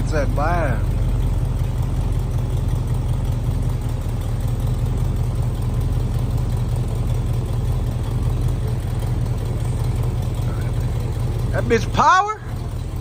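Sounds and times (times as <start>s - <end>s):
car engine low exhaust rumble: 0.0s - 13.0s.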